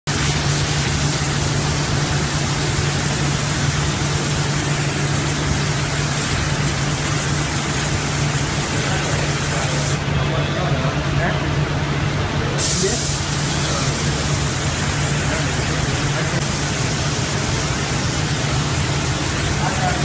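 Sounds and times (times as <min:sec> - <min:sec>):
spray gun hissing: 0:00.1 - 0:10.0, 0:12.6 - 0:20.0.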